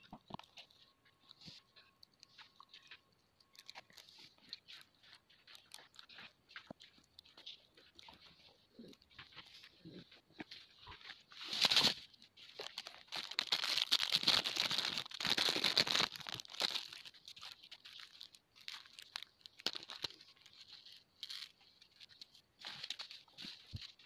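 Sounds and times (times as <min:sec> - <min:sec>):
plastic crinkling and rustling: 0:00.0 - 0:24.0.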